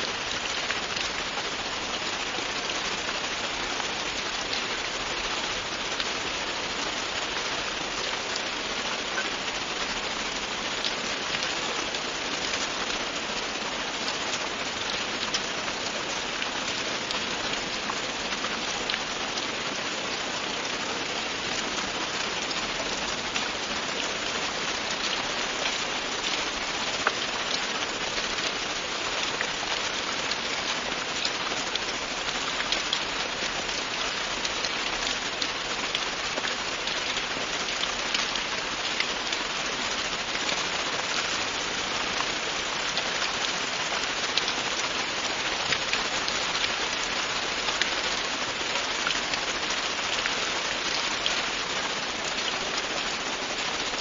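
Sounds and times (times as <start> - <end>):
rain drops ticking on a surface: 0.0 - 54.0.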